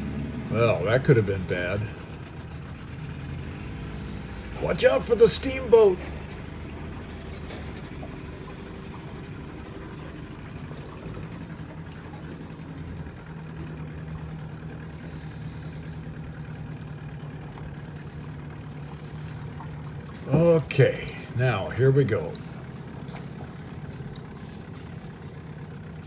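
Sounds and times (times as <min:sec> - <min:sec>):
boat motor running: 0:00.0 - 0:26.0.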